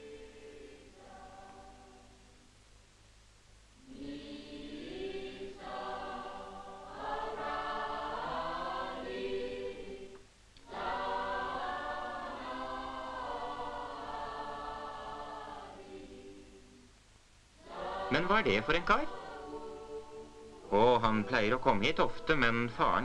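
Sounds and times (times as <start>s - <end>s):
choir singing a hymn-like melody: 0.0s - 2.5s, 3.8s - 16.9s, 17.6s - 23.0s.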